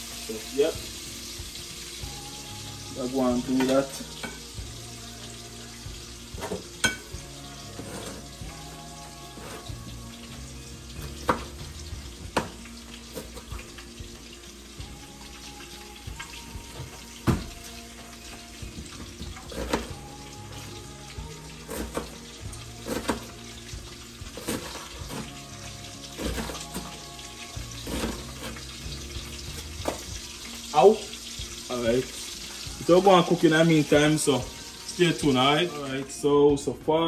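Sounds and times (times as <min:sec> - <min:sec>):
faint background music: 0:00.0 - 0:37.0
food sizzling in a pan: 0:00.0 - 0:37.0.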